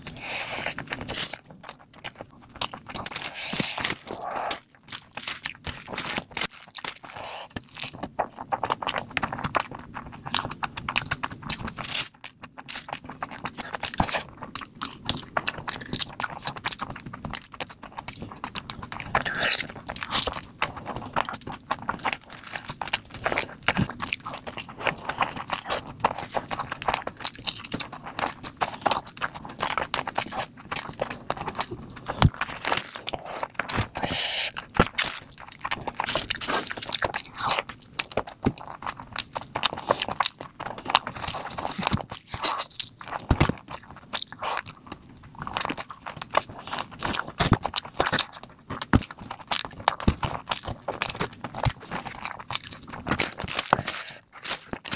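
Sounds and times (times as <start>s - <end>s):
person chewing and biting food: 0.0s - 54.9s.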